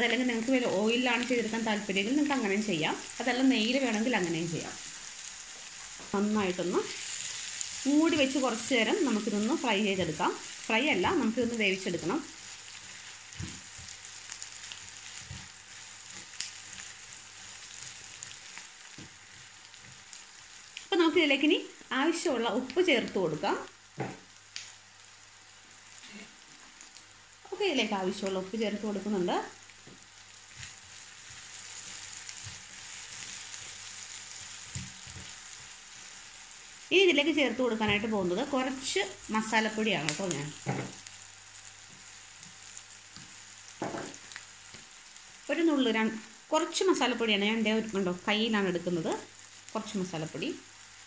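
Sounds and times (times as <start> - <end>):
vegetables sizzling in a frying pan: 0.0 - 51.0.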